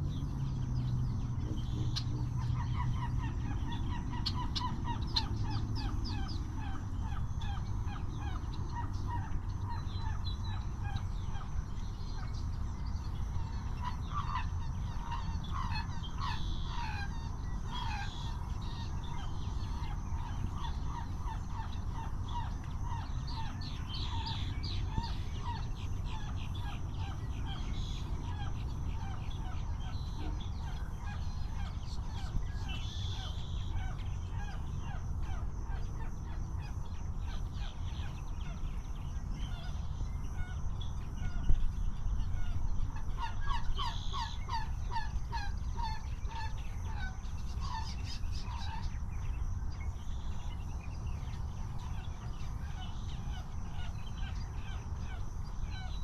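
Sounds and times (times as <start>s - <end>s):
marsh birds calling: 0.0s - 56.0s
steady low rumble: 0.0s - 56.0s.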